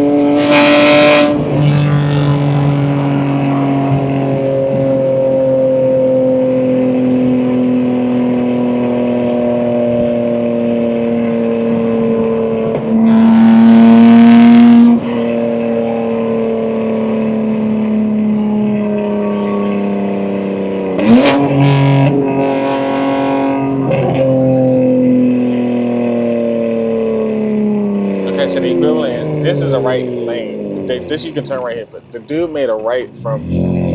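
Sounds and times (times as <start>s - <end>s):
car engine exhaust note: 0.0s - 33.9s
engine revving: 0.0s - 33.9s.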